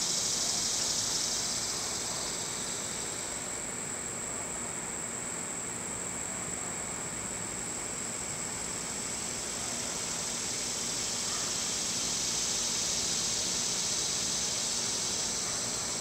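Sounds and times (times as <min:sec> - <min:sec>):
high-pitched insect chorus: 0:00.0 - 0:04.7, 0:05.7 - 0:16.0.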